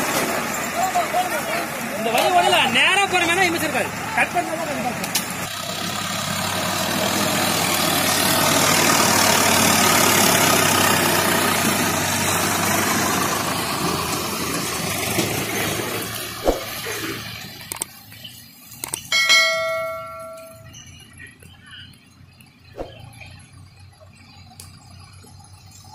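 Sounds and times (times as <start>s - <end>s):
tractor diesel engine pulling trailer: 0.0s - 25.9s.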